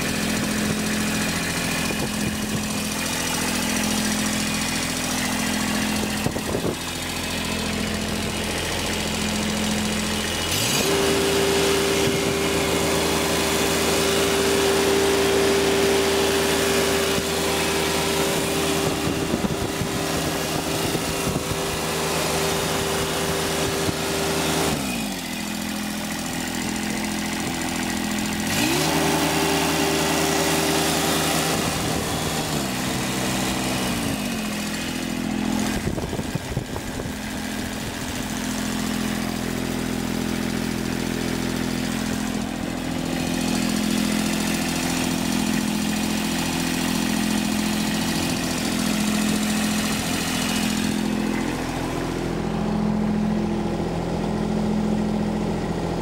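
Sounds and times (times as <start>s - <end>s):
diesel mower engine running: 0.0s - 56.0s.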